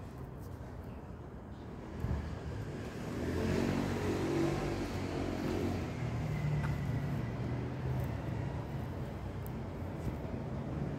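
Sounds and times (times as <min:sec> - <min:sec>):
vehicle passing by: 0:01.9 - 0:10.9.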